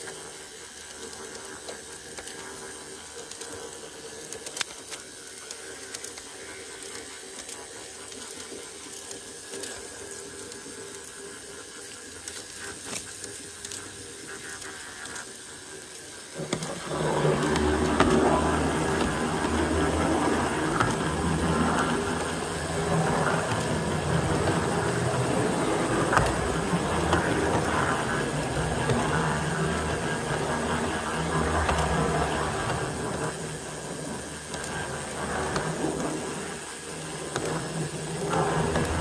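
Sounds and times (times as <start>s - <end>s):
model train motor hum: 0.0s - 39.0s.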